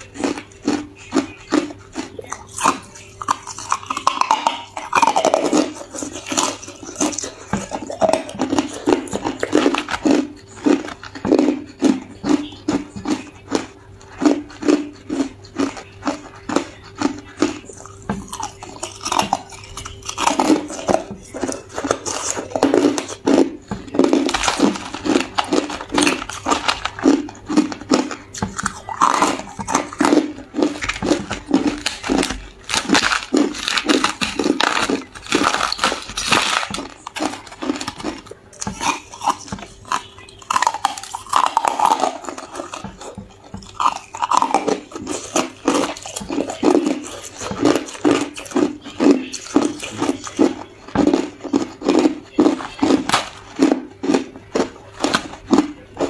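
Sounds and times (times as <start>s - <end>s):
ice crunched between teeth: 0.0s - 56.0s.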